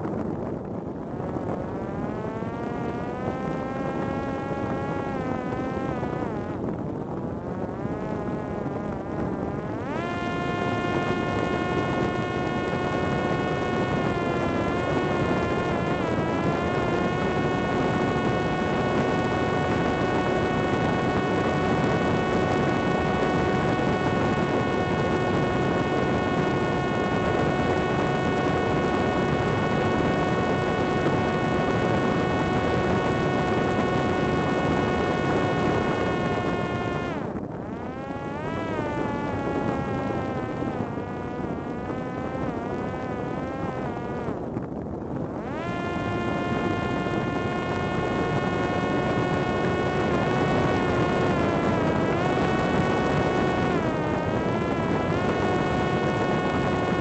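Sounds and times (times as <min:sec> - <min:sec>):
drone motor and propeller whine: 0:00.0 - 0:57.0
wind noise: 0:00.0 - 0:57.0.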